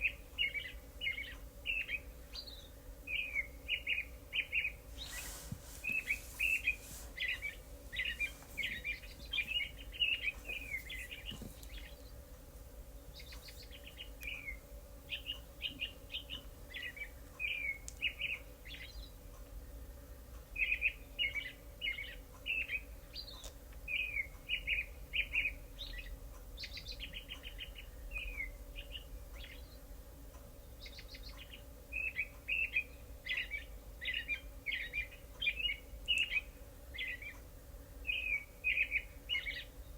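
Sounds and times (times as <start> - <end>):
birds chirping and twittering: 0.0 - 39.9
faint steady hum: 0.0 - 39.9.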